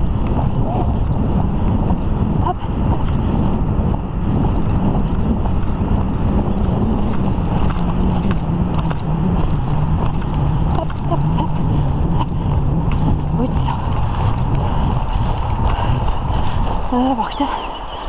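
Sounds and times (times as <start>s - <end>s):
hoofbeats on sand: 0.0s - 18.0s
wind buffeting microphone: 0.0s - 18.0s.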